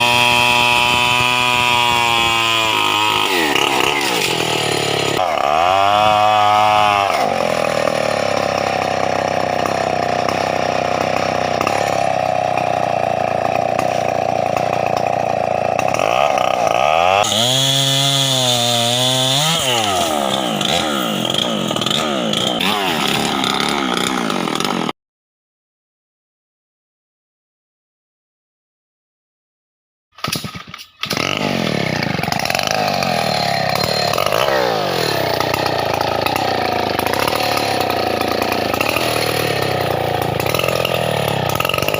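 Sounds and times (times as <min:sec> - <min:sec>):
chainsaw running at high revs: 0:00.0 - 0:25.0, 0:31.0 - 0:41.9.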